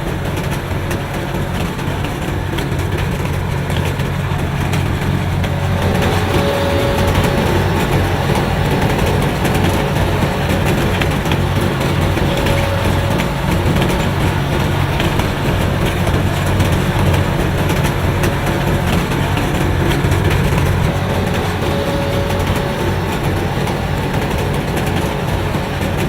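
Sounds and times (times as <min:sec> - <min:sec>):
paving machine engine humming: 0:00.0 - 0:26.0.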